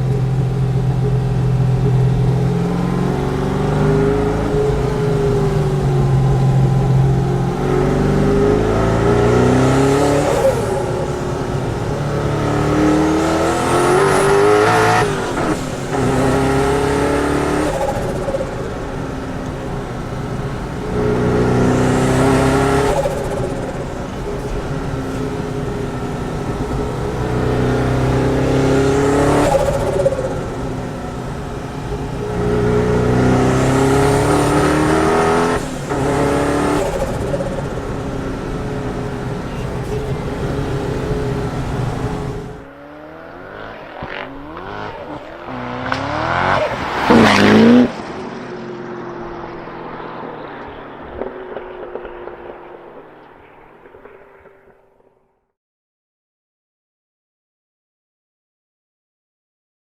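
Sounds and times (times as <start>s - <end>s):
high turbo whine: 0.0s - 55.1s
supercar engine accelerating: 0.0s - 55.1s.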